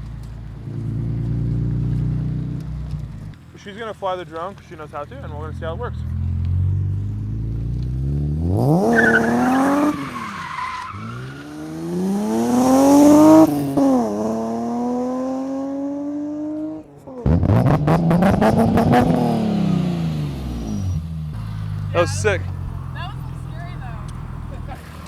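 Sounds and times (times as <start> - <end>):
car engine accelerating through gears: 0.0 - 3.5, 5.0 - 25.0.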